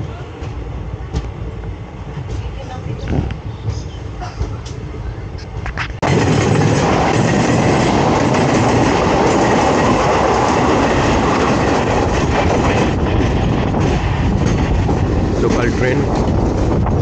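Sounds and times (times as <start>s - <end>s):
train wheels rattling on rails: 0.3s - 17.0s.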